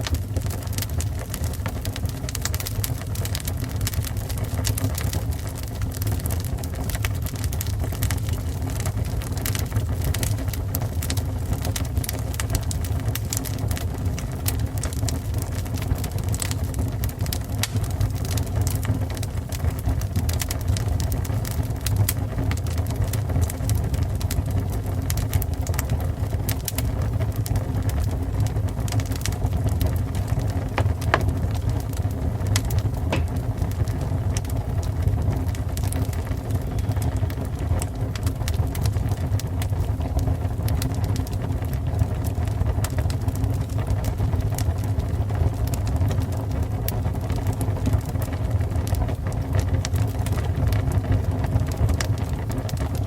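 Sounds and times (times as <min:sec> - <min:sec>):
fire rumbling and crackling: 0:00.0 - 0:53.0.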